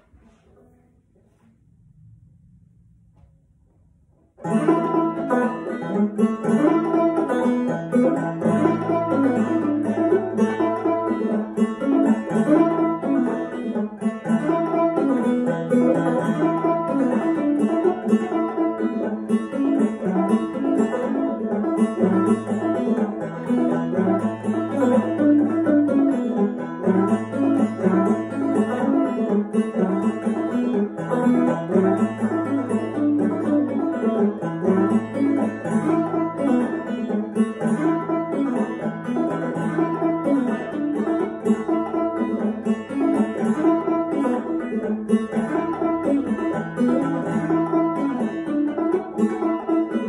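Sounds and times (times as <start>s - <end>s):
banjo plucked notes over drone: 4.4s - 50.0s.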